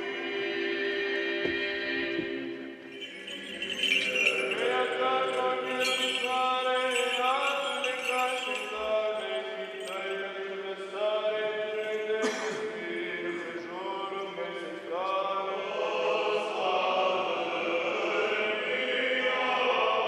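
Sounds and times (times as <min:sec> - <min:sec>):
slow liturgical chant: 0:00.0 - 0:20.0.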